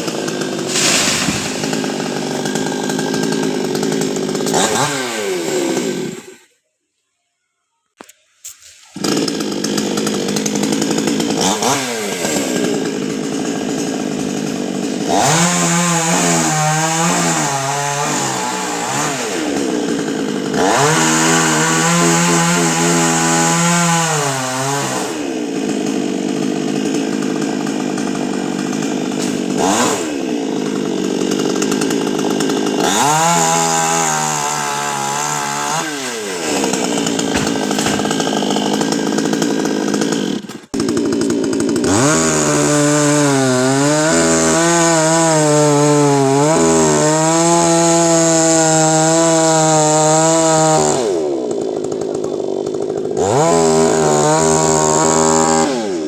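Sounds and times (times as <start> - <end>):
chainsaw cutting wood: 0.0 - 6.6, 8.0 - 56.0.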